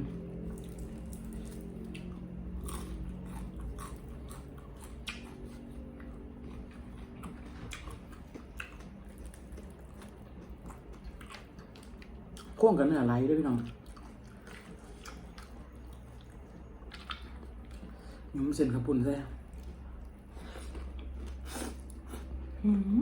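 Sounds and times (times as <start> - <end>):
person chewing crispy chicken: 0.0 - 12.6, 13.6 - 18.3, 19.4 - 22.6.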